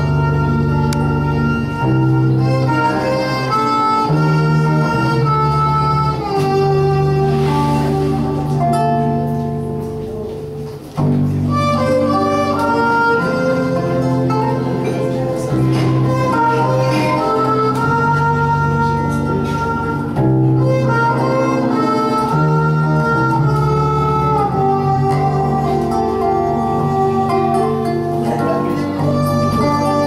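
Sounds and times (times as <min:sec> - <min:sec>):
acoustic guitar: 0:00.0 - 0:30.0
sustained melody instrument: 0:00.0 - 0:30.0.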